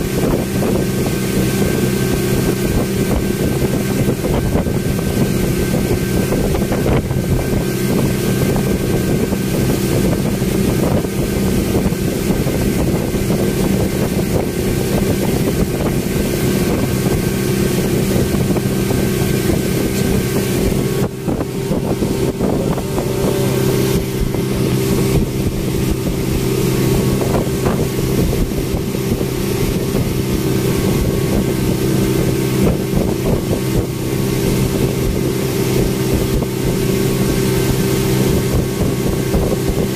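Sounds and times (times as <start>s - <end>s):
speedboat engine droning: 0.0s - 39.9s
wind rushing past microphone: 0.0s - 39.9s.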